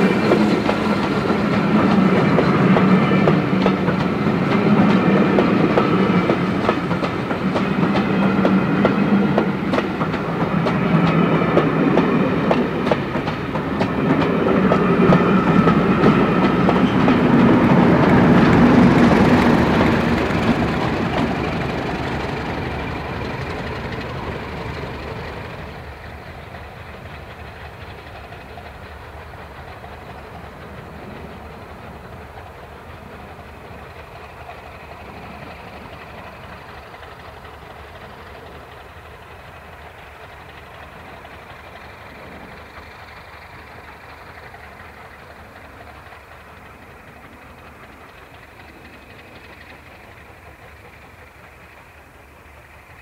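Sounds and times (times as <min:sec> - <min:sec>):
diesel locomotive drone: 0:00.0 - 0:53.0
train wheels clattering over rail joints: 0:00.0 - 0:53.0.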